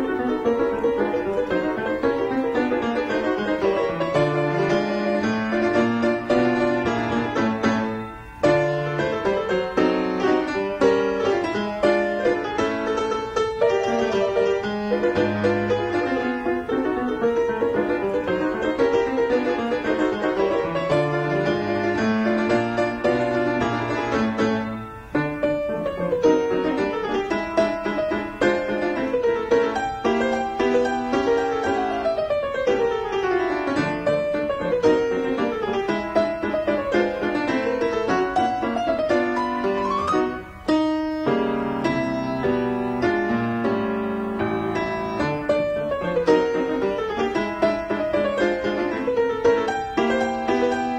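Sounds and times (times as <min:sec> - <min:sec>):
piano music: 0:00.0 - 0:50.9.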